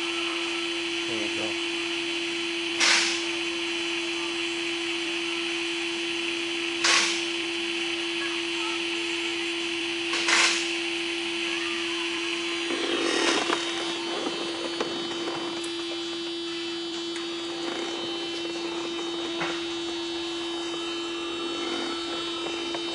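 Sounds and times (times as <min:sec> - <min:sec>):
small power tool humming: 0:00.0 - 0:22.9.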